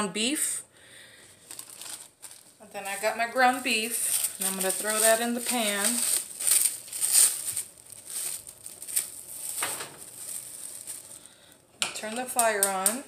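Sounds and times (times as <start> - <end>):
plastic packaging crinkling: 1.2 - 13.0.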